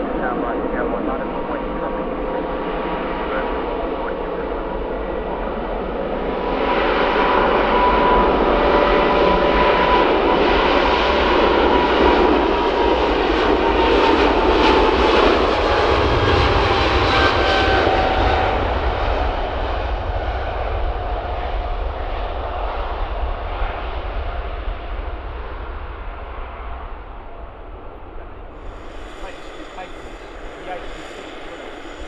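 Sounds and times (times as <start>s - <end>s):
jet aircraft passing: 0.0s - 32.0s.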